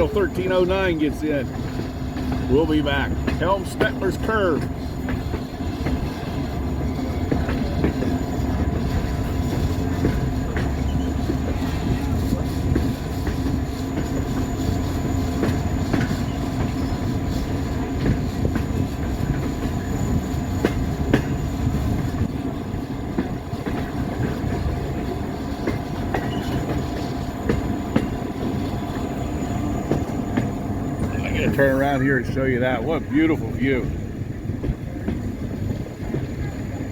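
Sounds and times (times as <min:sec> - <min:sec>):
diesel engine and wheels rumbling: 0:00.0 - 0:36.9.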